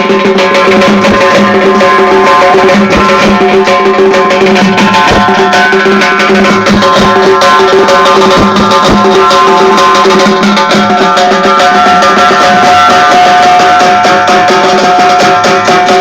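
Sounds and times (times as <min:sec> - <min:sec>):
drums: 0:00.0 - 0:16.0
irregular strikes: 0:00.0 - 0:16.0.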